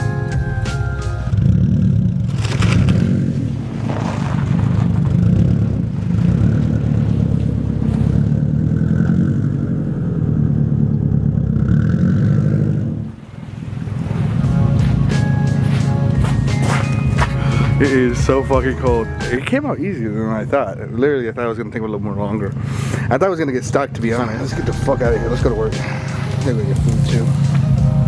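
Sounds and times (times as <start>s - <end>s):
car engine revving: 0.0s - 21.4s, 23.6s - 28.0s.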